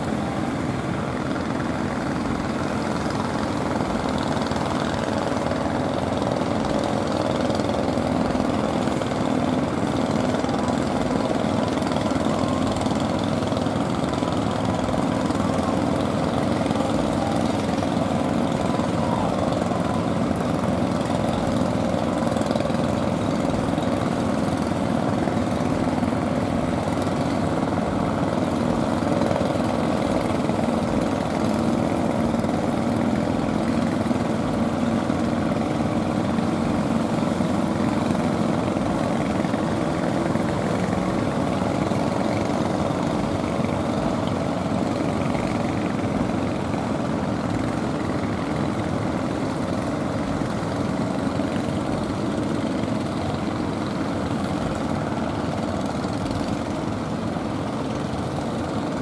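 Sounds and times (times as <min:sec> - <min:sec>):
boat engines running: 0:00.0 - 0:59.0.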